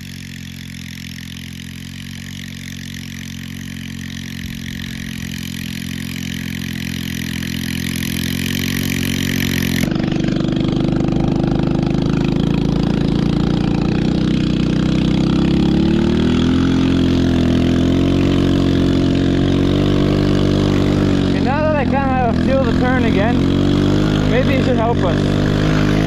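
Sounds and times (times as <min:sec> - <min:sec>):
small engine revving: 0:00.0 - 0:26.0.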